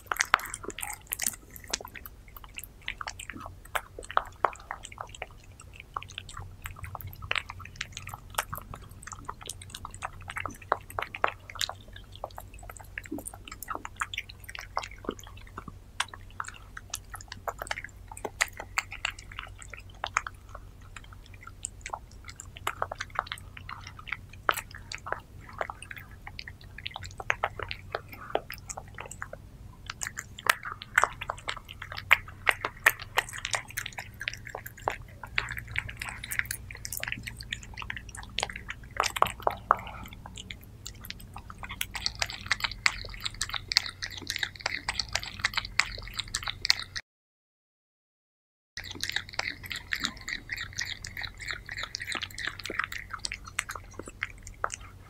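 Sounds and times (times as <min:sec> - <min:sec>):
steady low hum: 0:00.0 - 0:46.7
cats chewing and licking: 0:00.0 - 0:47.0, 0:48.8 - 0:55.0.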